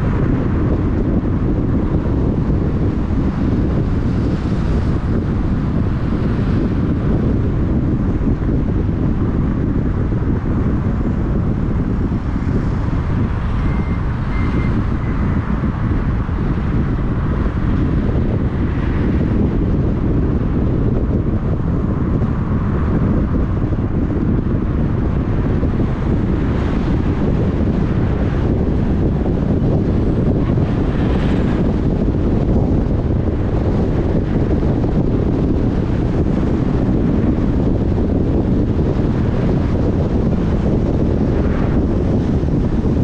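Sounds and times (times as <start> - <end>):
vehicle road noise: 0.0 - 43.0
wind rumble on microphone: 0.0 - 43.0.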